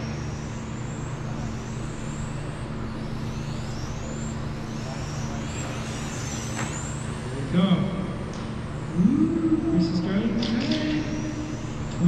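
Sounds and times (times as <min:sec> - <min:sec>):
electric toy car motors whining: 0:00.0 - 0:07.6, 0:08.2 - 0:12.0
steady low hum: 0:00.0 - 0:12.0.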